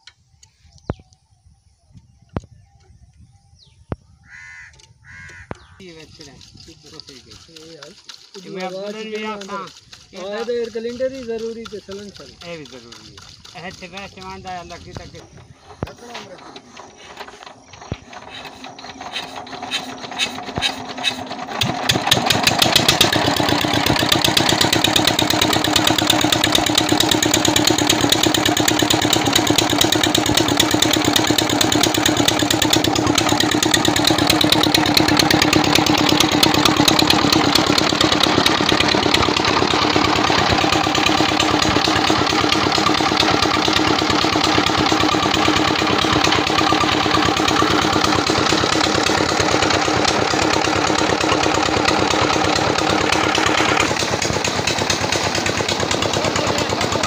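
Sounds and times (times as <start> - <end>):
diesel engine starting and running: 5.9 - 57.0.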